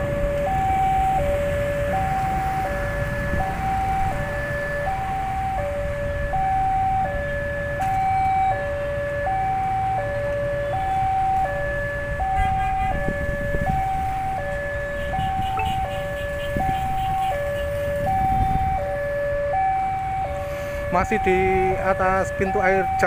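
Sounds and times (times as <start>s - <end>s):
level crossing two-tone alarm: 0.0s - 23.0s.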